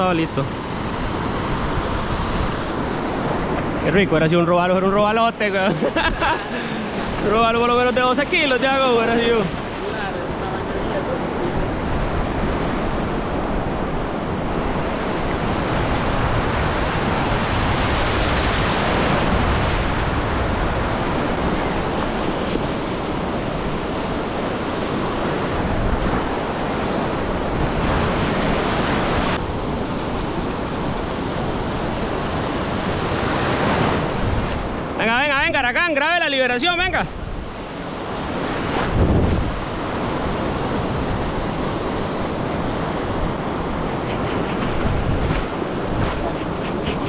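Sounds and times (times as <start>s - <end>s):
wind on microphone: 0.0s - 35.4s, 37.1s - 47.0s
ocean surf breaking: 0.0s - 47.0s.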